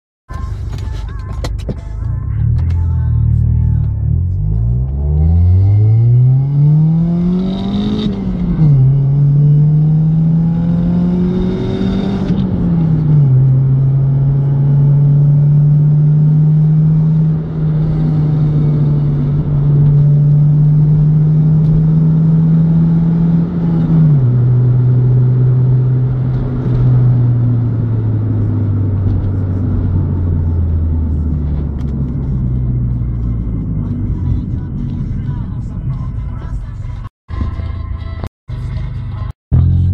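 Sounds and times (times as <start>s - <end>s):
car engine and exhaust: 0.3s - 39.9s.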